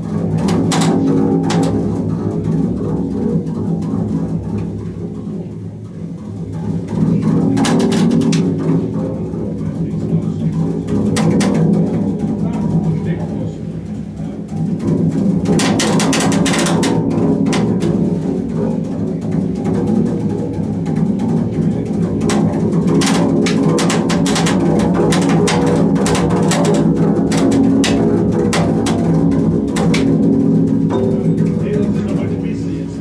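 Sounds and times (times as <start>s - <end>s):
bowed double bass drone: 0.0s - 33.0s.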